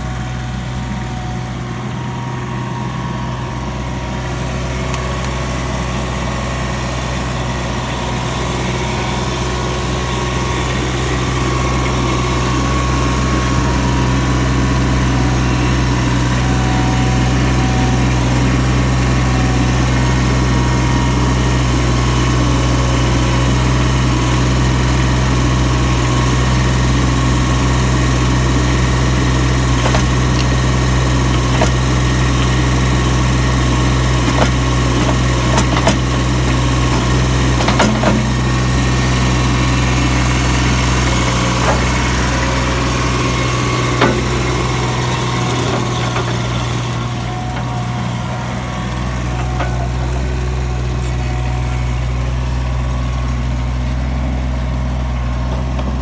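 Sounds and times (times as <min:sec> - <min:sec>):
skid steer engine running: 0:00.0 - 0:56.0.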